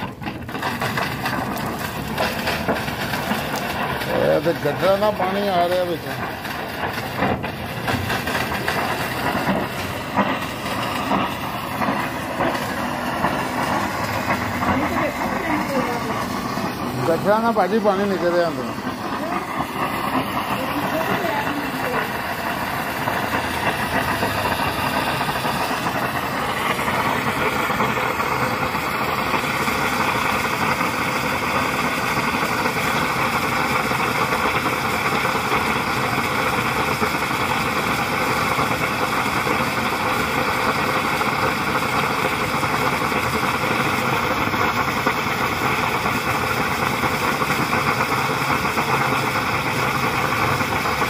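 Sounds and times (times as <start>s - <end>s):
water rushing from gas pipe: 0.0s - 51.0s.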